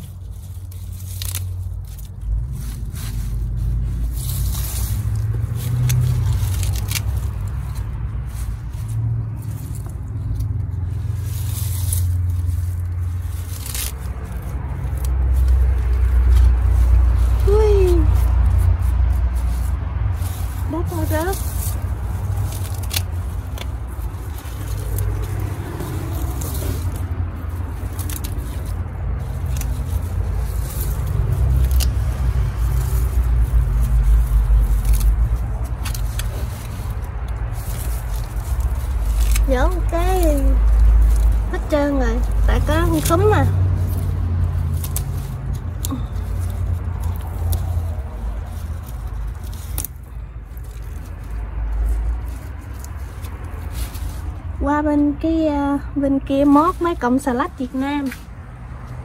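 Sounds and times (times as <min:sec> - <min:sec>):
leaves rustling and scraping: 0:00.0 - 0:59.0
low rumble: 0:00.0 - 0:59.0.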